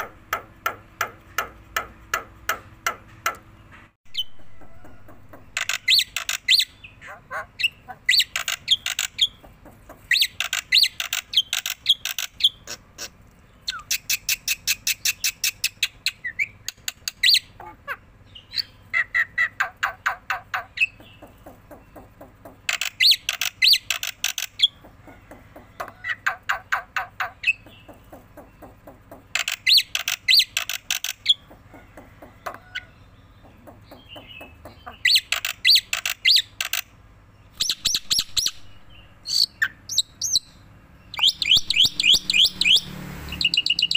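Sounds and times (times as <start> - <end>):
bird harsh chattering song: 0.0 - 43.9.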